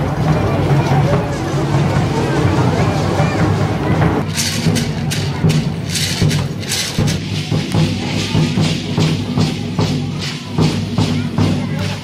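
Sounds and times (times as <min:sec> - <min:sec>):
rattling percussion: 0:00.0 - 0:12.0
steady drum beat: 0:00.0 - 0:12.0.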